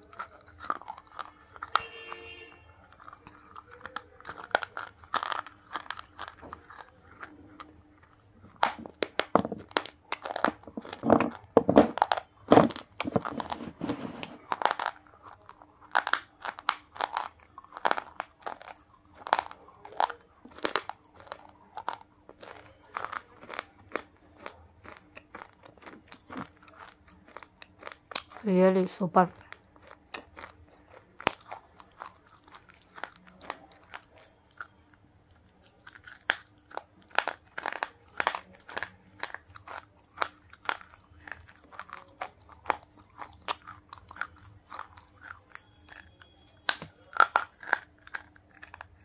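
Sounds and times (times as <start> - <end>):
crunching and chewing chalk: 0.0 - 49.0.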